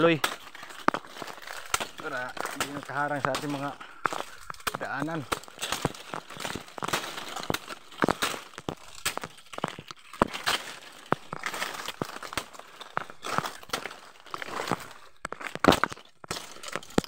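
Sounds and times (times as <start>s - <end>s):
footsteps through rustling undergrowth: 0.0s - 17.0s
stems snapping with sharp cracks: 0.0s - 17.0s.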